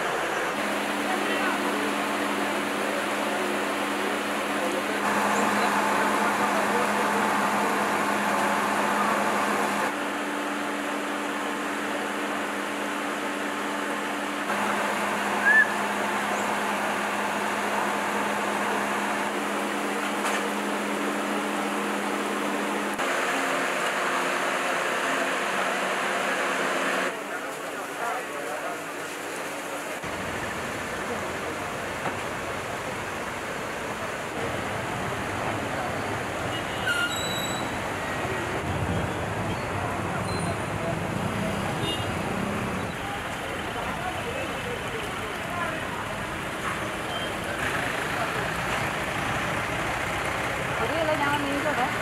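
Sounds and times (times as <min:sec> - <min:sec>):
hissing outdoor ambience: 0:00.0 - 0:52.0.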